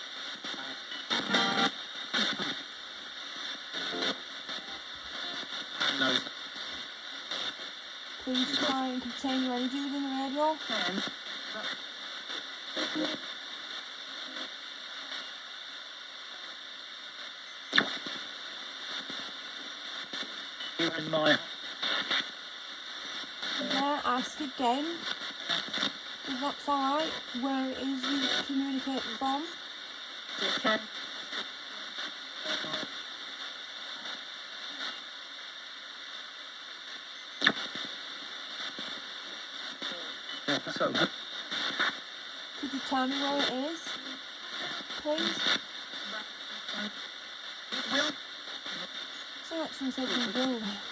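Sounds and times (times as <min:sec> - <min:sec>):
radio static hiss: 0:00.0 - 0:50.9
sharp radio crackle: 0:00.0 - 0:50.9
snatches of broadcast sound: 0:00.0 - 0:50.9.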